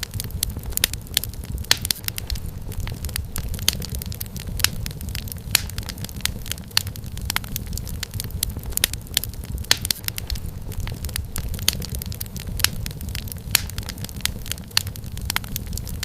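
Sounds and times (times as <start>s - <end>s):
firewood crackling and popping: 0.0s - 16.0s
low rumble of fire: 0.0s - 16.0s.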